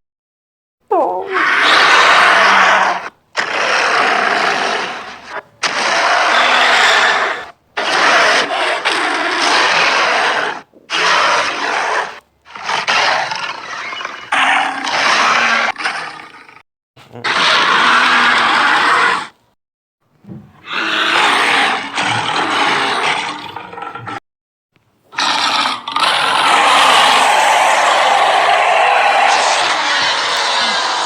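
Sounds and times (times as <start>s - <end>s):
monster roars: 0.9s - 19.3s, 20.6s - 24.2s, 25.1s - 31.0s.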